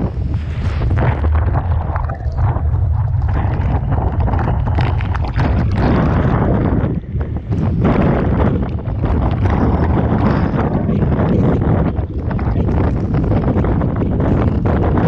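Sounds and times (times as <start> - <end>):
crackles: 0.0 - 15.0
rough crashing sea: 0.0 - 15.0
wind buffeting microphone: 0.0 - 15.0.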